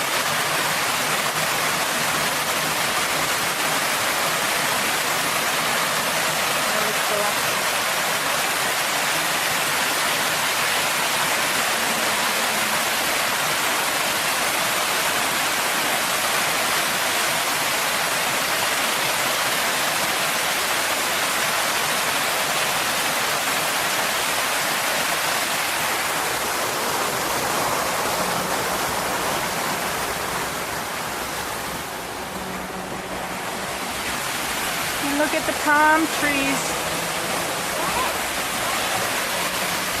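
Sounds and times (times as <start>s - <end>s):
water fountain splashing: 0.0s - 40.0s.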